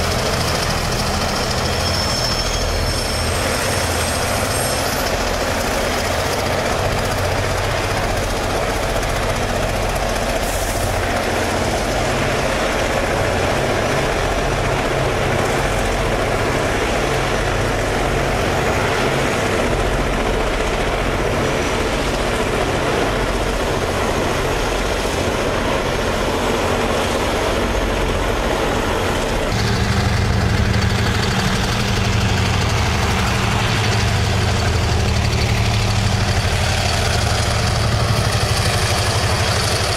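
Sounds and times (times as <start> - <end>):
diesel locomotive engine drone: 0.0 - 39.9
train wheels rumbling on rails: 0.0 - 39.9.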